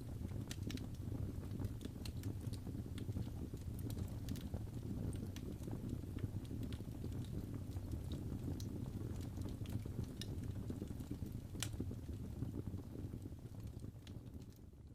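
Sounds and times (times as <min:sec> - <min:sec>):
fire crackles and pops: 0:00.0 - 0:14.9
fire flames rumbling: 0:00.0 - 0:14.9.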